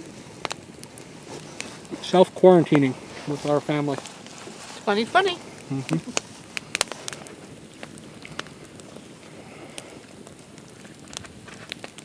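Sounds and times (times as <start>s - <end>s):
campfire crackling: 0.0s - 12.0s
fire popping: 0.0s - 12.0s
steady hiss: 0.0s - 12.0s.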